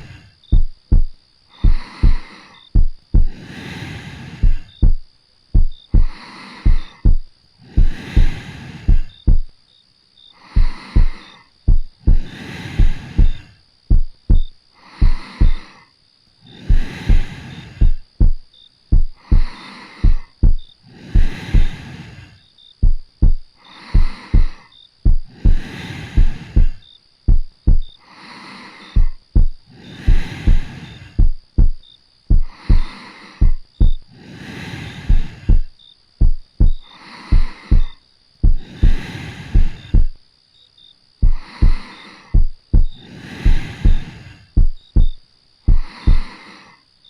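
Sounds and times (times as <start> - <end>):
heartbeat thumping: 0.0 - 3.4, 4.4 - 9.6, 10.6 - 15.6, 16.7 - 21.8, 22.8 - 28.0, 29.0 - 34.1, 35.0 - 40.2, 41.2 - 46.3
soft breathing: 0.0 - 9.6, 10.2 - 40.3, 41.2 - 47.0.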